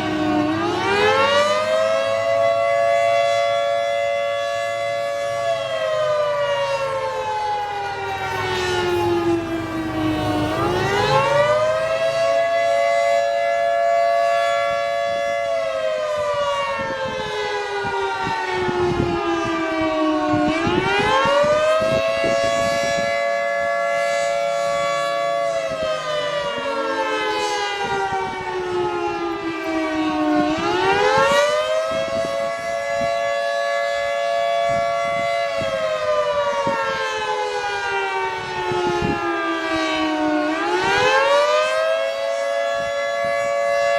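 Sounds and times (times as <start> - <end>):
dual-tone warning siren wailing: 0.0 - 43.9.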